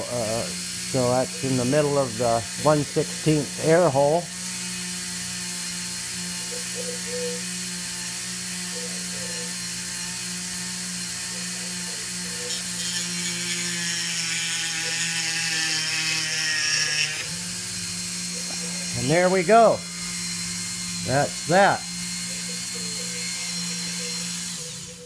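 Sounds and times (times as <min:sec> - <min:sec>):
rotary tool whine: 0:00.0 - 0:25.0.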